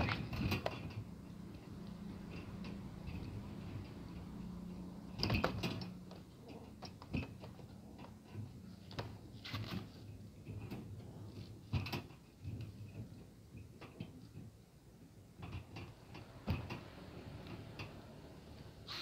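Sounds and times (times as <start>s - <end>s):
sharp clicks and knocks: 0.0s - 19.0s.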